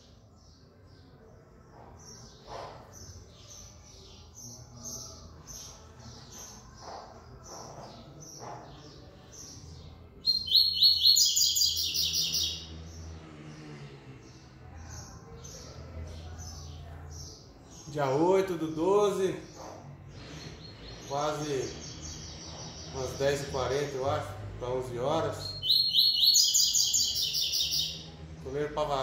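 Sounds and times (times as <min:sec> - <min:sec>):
bird singing high chirps and trill: 0:00.0 - 0:13.2, 0:14.2 - 0:29.0.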